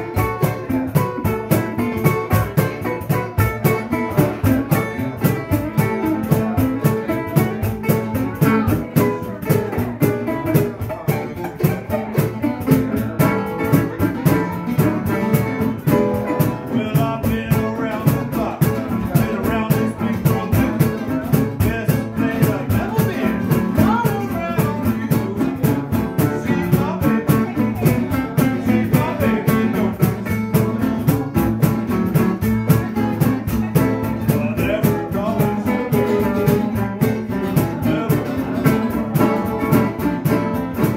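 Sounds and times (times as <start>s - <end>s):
acoustic guitars: 0.0s - 40.9s
cajon beat: 0.0s - 40.9s
resonator guitar: 0.0s - 40.9s.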